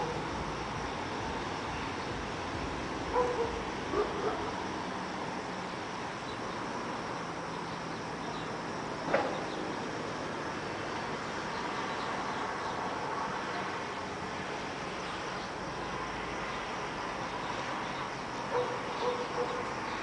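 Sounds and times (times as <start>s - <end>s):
town hum: 0.0s - 20.0s.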